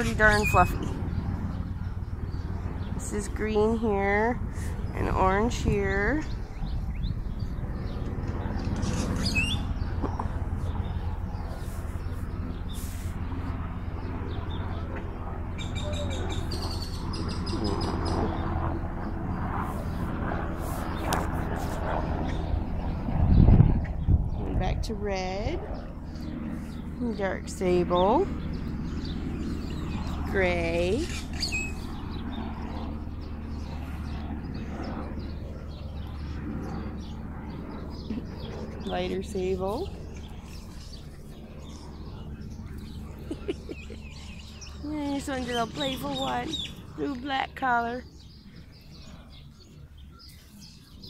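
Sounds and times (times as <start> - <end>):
bird chirping trill: 0.0 - 19.6, 25.7 - 51.0
faint outdoor background: 0.0 - 51.0
low machine hum: 0.0 - 51.0
steady low rumble: 0.0 - 51.0.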